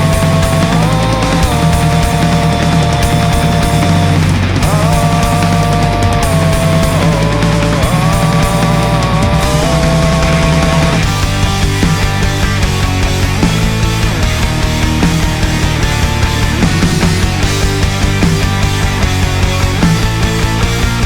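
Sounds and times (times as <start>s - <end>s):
bass guitar: 0.0s - 21.0s
distorted rhythm guitars: 0.0s - 21.0s
drums: 0.0s - 21.0s
lead guitar line: 0.0s - 21.0s.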